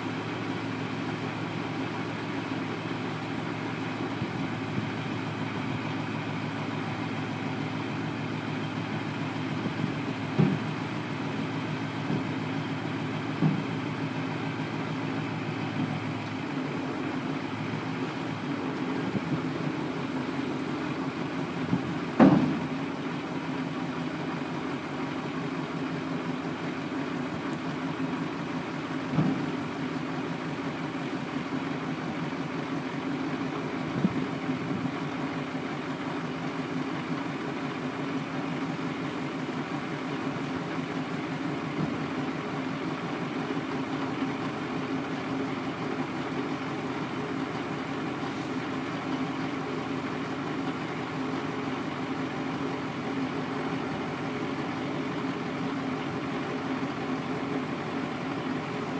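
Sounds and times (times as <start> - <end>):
truck engine idling: 0.0 - 58.9.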